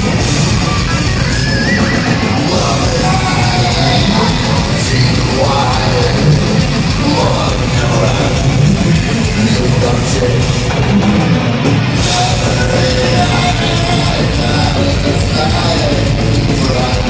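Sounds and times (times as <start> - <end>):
distorted electric guitars: 0.0 - 17.0
pounding drums: 0.0 - 17.0.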